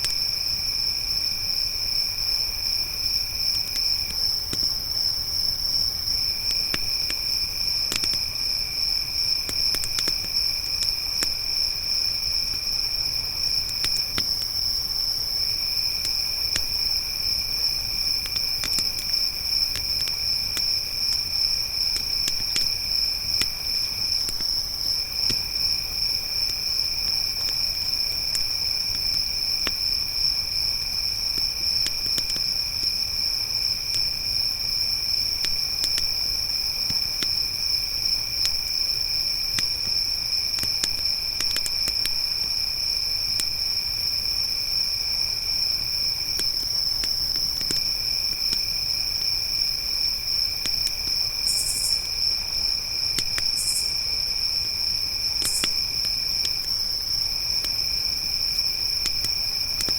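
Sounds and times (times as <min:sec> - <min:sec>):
crickets trilling: 0:00.0 - 0:59.9
campfire crackling: 0:02.6 - 0:59.9.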